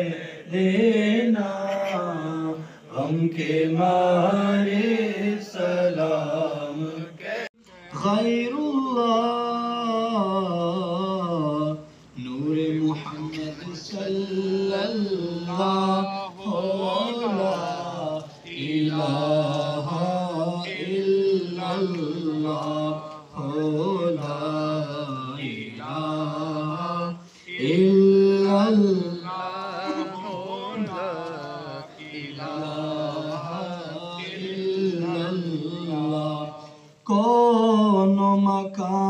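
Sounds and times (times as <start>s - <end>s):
man chanting over microphone: 0.0s - 39.0s.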